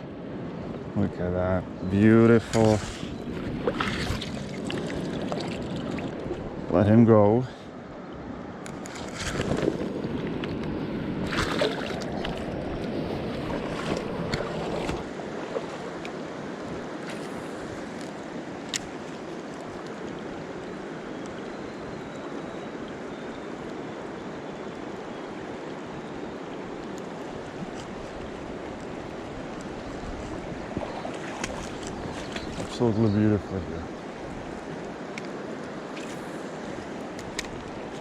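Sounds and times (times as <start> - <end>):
river water rushing: 2.5 - 6.8, 7.7 - 38.0.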